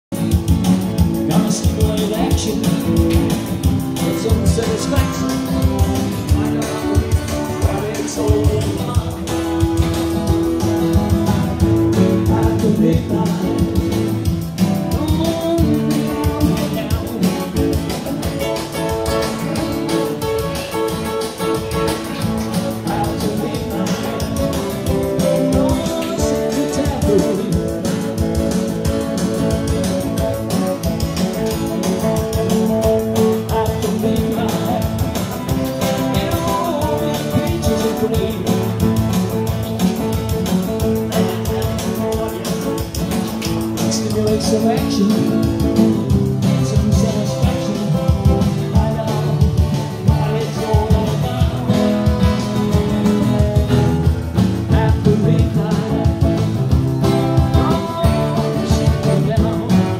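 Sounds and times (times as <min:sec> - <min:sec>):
acoustic guitars strummed: 0:00.1 - 0:59.9
man singing: 0:00.2 - 0:59.9.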